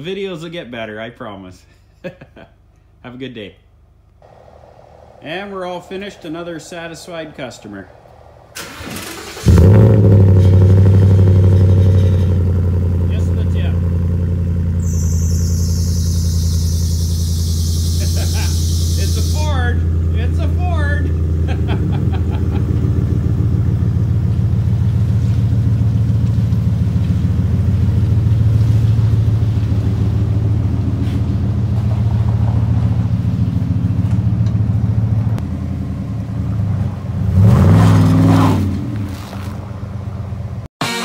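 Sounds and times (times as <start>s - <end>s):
pickup truck engine idling: 4.2s - 37.2s.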